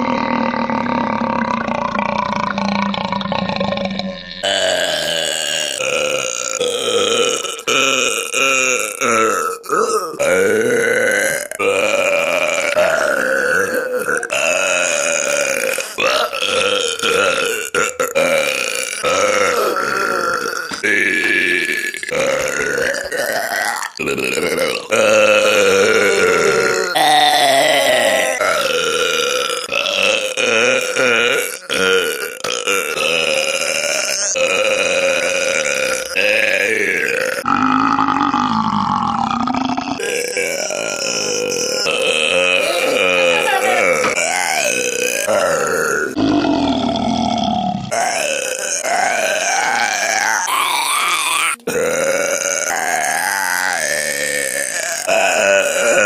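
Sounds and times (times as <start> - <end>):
person belching: 0.0 - 56.0.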